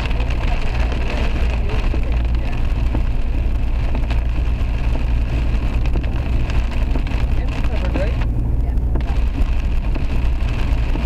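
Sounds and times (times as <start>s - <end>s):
car engine and road rumble: 0.0s - 11.0s
rain on car: 0.0s - 11.0s
tyres hissing on wet road: 0.0s - 11.0s.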